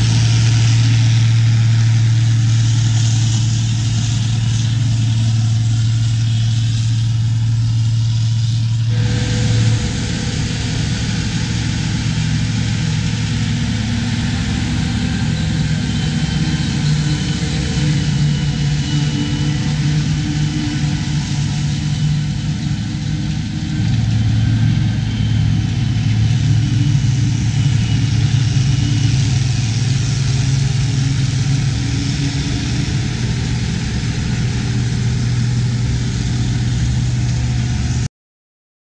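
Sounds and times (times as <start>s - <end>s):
tractor diesel engine running: 0.0s - 38.1s.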